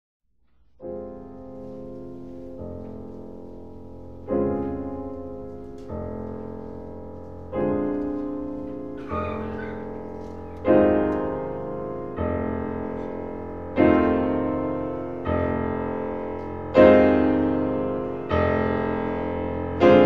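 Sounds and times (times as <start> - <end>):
slow piano chords: 0.4 - 20.0.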